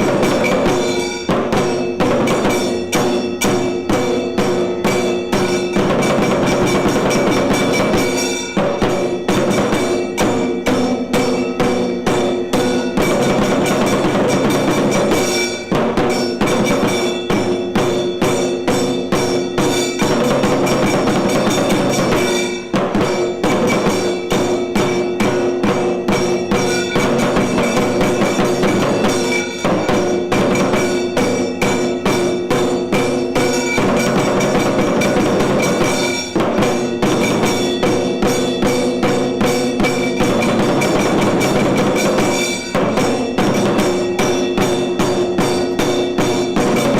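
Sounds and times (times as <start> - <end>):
drums beating fast rhythm: 0.0 - 46.9
ringing metal percussion: 0.0 - 46.9
steady held tones: 0.0 - 46.9.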